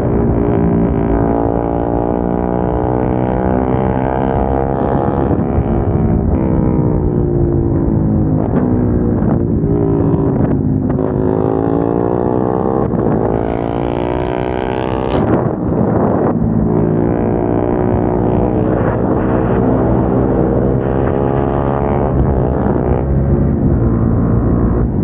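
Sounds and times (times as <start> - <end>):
motorcycle engines accelerating: 0.0 - 25.0.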